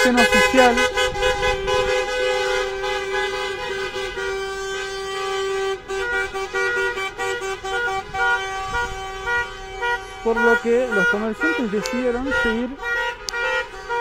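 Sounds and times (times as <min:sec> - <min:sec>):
car horns honking: 0:00.0 - 0:14.0
passing cars: 0:00.0 - 0:14.0.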